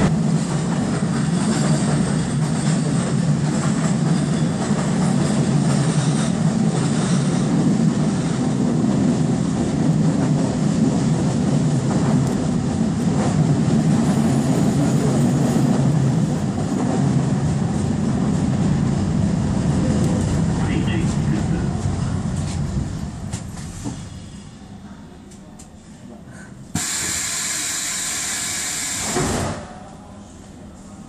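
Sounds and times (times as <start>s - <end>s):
train wheels rumbling on rail: 0.0s - 30.1s.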